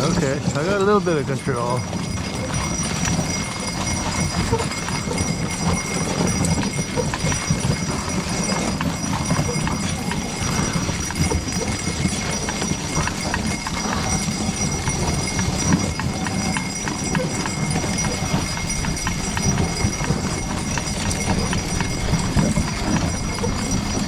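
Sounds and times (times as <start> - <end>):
horse hooves on packed snow: 0.0 - 24.0.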